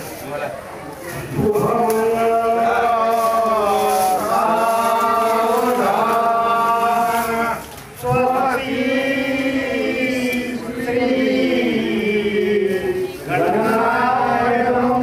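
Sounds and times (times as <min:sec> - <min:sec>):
man chanting over a microphone: 0:01.2 - 0:15.0.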